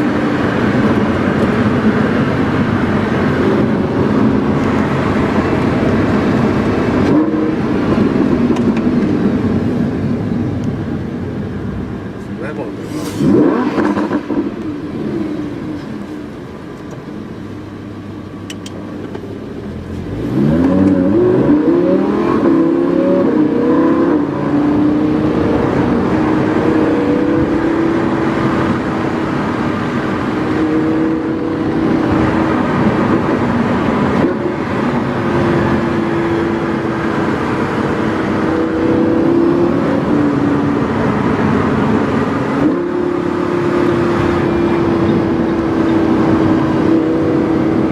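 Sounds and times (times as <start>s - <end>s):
sports car engine accelerating: 0.0s - 47.9s.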